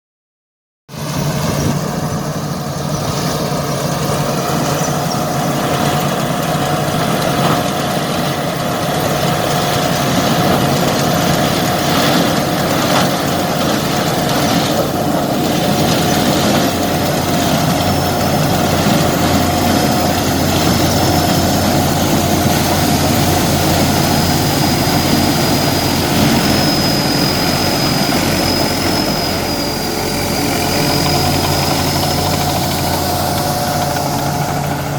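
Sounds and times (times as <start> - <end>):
corn sheller engine running: 0.9 - 34.9
thin high whine: 1.0 - 34.9.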